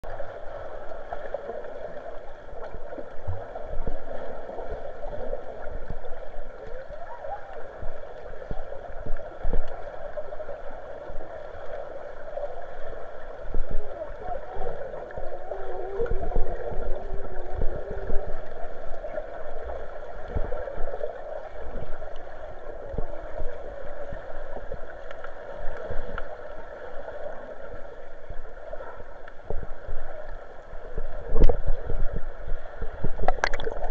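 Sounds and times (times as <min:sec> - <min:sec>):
underwater sloshing and gurgling: 0:00.0 - 0:33.9.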